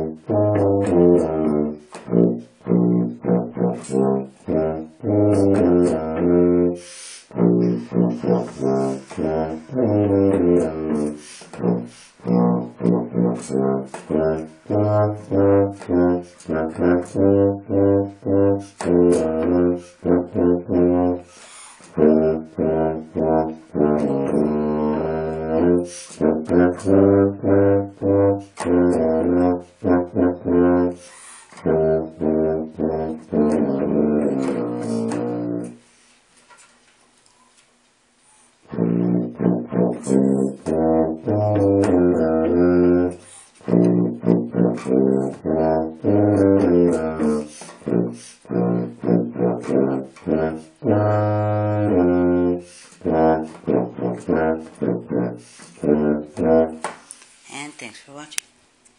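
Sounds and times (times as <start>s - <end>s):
solo tuba melody: 0.0s - 35.9s, 38.6s - 56.9s.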